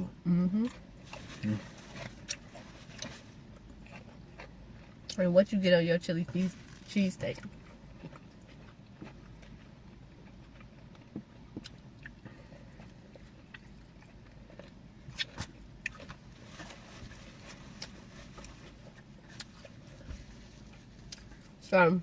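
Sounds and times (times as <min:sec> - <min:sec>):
people chewing food: 0:00.5 - 0:05.6, 0:06.2 - 0:21.6.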